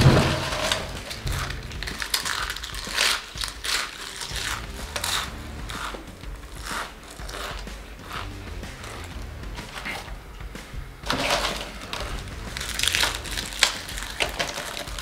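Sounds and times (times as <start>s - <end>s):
tortilla chips crunching: 0.6s - 10.0s, 11.1s - 15.0s.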